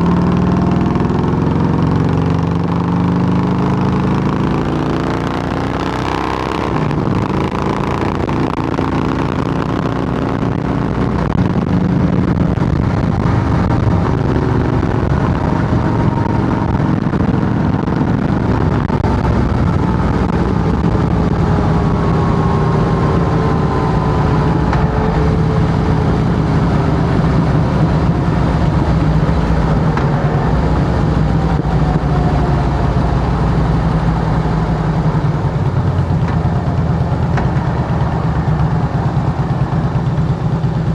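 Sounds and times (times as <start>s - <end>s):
motorcycle engine low rumble: 0.0s - 40.9s.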